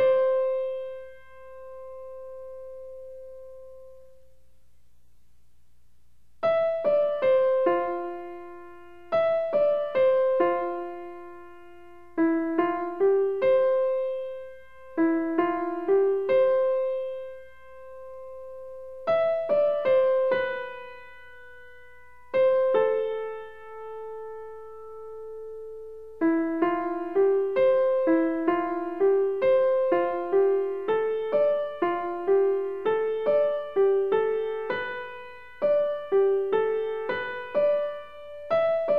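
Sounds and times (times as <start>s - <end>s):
gentle piano music: 0.0s - 4.4s, 6.4s - 38.9s.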